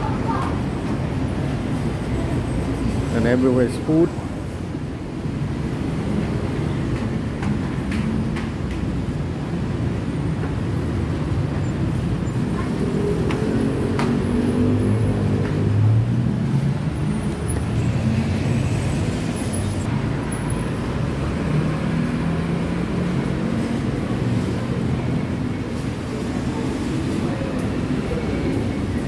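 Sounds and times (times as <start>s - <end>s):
rumble of passing vehicles: 0.0s - 29.0s.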